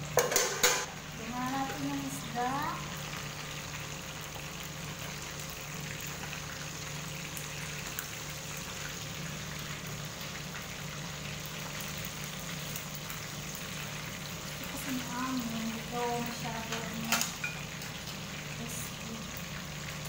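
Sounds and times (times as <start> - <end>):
fish frying in hot oil: 0.0 - 20.0.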